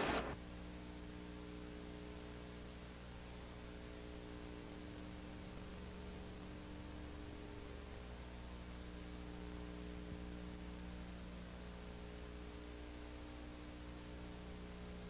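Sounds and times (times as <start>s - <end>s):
faint electrical hum: 0.0s - 15.0s
tape hiss: 0.0s - 15.0s.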